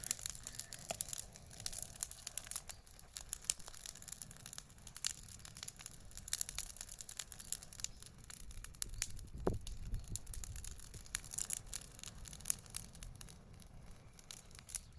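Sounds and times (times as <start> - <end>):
bonfire crackling and popping: 0.0 - 14.9
low rumble of burning fire: 0.0 - 14.9.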